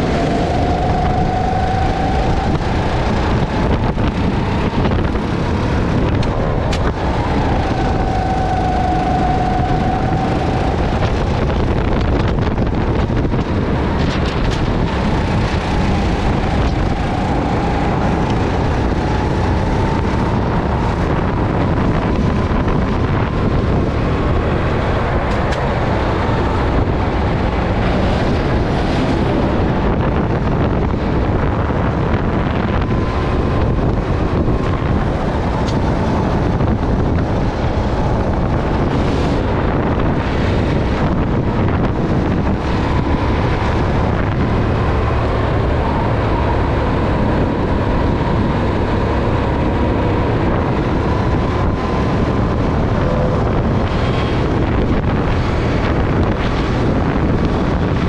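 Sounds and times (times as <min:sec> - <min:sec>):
kart engine running hard: 0:00.0 - 0:58.0
wind buffeting microphone: 0:00.0 - 0:58.0.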